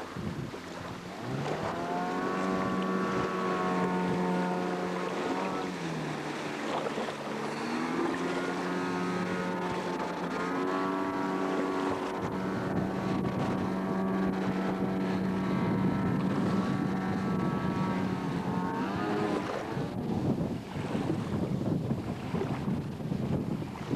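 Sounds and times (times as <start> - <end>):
boat engine running: 0.0 - 23.9
water rushing: 0.0 - 23.9.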